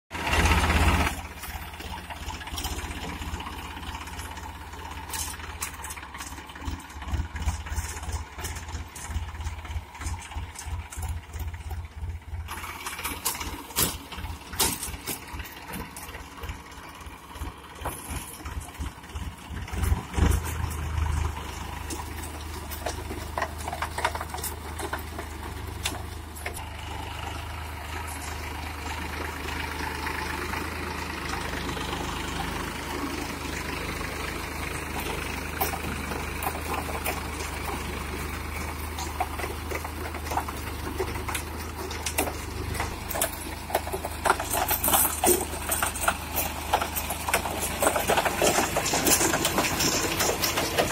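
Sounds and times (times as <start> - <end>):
tractor diesel engine running: 0.1 - 50.9
baler clicks and rattles: 0.2 - 26.7, 34.6 - 50.9.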